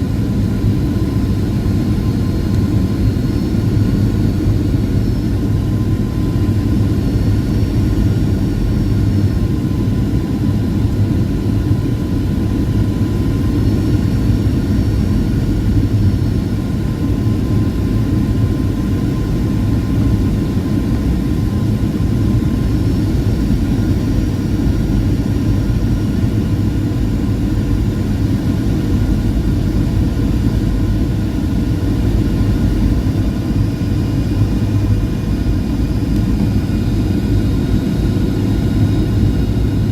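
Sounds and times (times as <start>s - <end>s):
faint steady whine: 0.0s - 39.9s
jet engines and airflow rumble: 0.0s - 39.9s.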